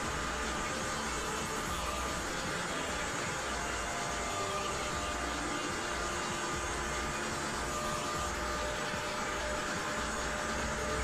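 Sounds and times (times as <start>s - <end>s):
heat gun blowing hot air: 0.0s - 11.0s.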